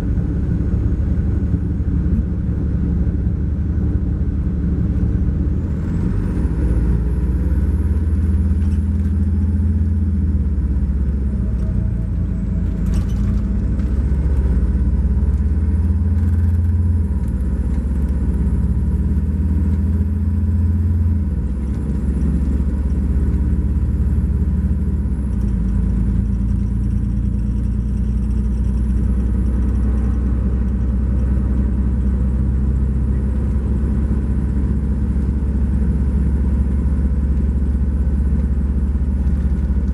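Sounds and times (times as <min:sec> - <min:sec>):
diesel engine drone: 0:00.0 - 0:39.9
road noise: 0:00.0 - 0:39.9.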